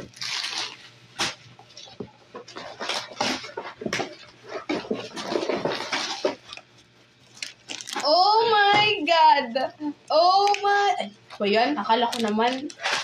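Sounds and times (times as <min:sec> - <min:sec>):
bags and packaging rustling: 0:00.0 - 0:09.0, 0:11.4 - 0:13.0.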